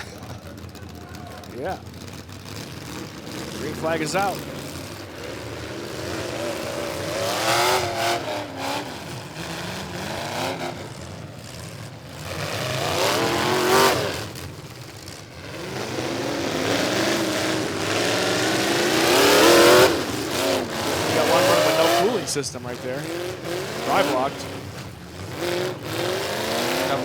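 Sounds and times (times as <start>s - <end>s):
truck engines revving hard: 0.0s - 27.0s.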